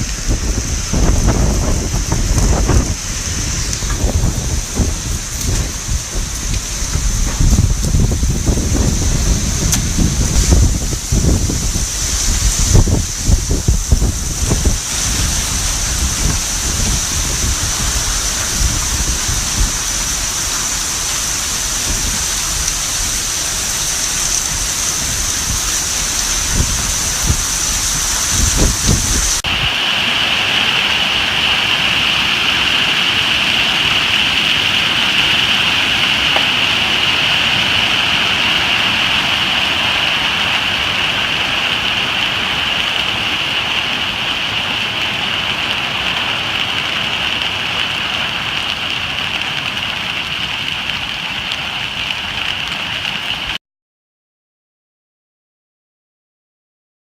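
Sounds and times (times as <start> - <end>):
wind gusts buffeting microphone: 0.0 - 50.1
rain and hail falling: 0.0 - 53.6.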